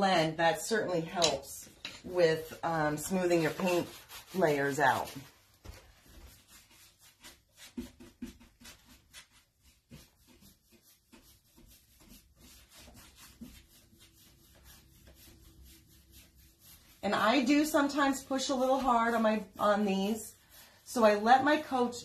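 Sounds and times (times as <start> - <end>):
paintbrush scratching on wood: 0.1 - 22.0.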